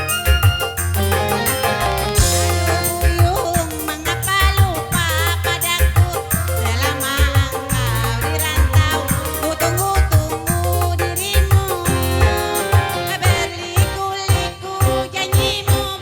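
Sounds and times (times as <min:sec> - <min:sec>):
fast shaker-like beat: 0:00.0 - 0:14.0
sustained bass notes: 0:00.0 - 0:14.0
electronic keyboard melody: 0:00.0 - 0:15.1.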